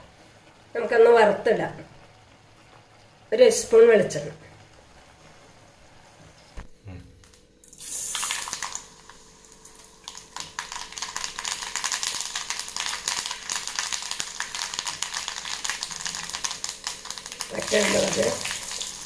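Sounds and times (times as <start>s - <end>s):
oil sizzling and crackling: 0.0s - 6.6s, 7.2s - 19.0s.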